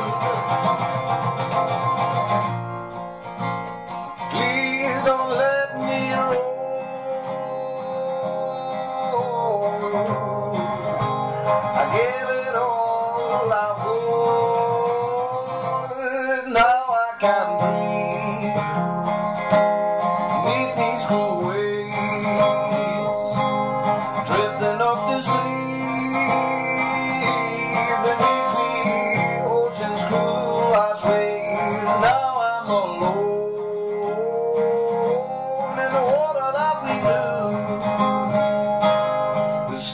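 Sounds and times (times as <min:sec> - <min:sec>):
man singing: 0:00.0 - 0:02.4, 0:03.9 - 0:19.5, 0:20.2 - 0:39.9
acoustic guitar: 0:00.0 - 0:39.9.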